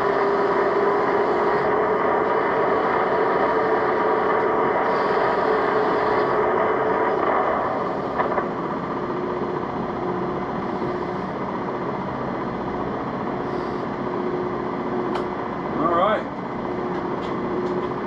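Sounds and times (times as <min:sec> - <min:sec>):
metal lathe humming with gear whine: 0:00.0 - 0:18.0.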